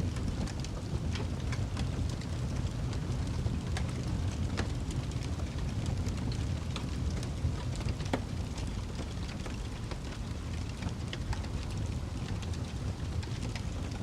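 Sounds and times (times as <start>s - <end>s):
fire crackling: 0.0s - 14.0s
fire popping and snapping: 0.0s - 14.0s.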